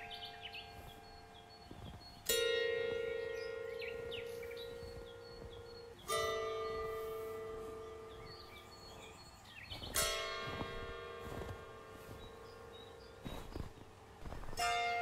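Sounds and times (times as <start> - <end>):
faint bird chirps: 0.0 - 14.6.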